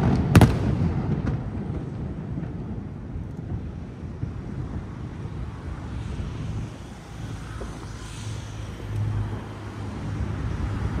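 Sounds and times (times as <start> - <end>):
city background noise: 0.0 - 11.0.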